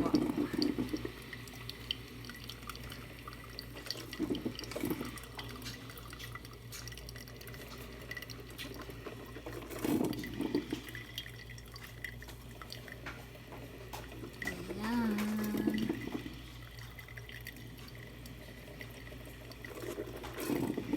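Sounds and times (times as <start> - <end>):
coffee maker gurgling and sputtering: 0.0 - 20.9
water dripping: 0.0 - 20.9.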